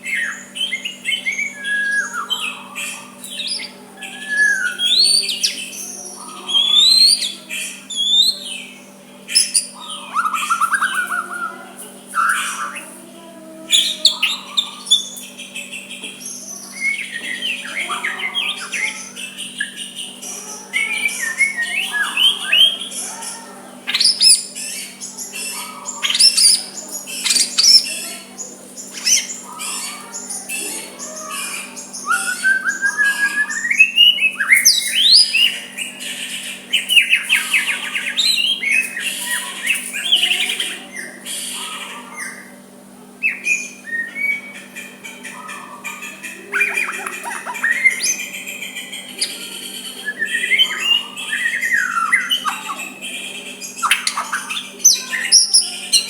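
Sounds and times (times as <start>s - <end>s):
bird singing whistles and chatter: 0.0s - 56.0s.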